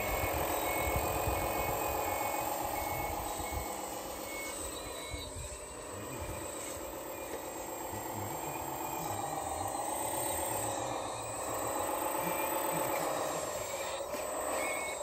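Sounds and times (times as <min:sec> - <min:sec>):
short reversing beeps: 0:00.0 - 0:15.0
simulated diesel engine sound: 0:00.0 - 0:15.0.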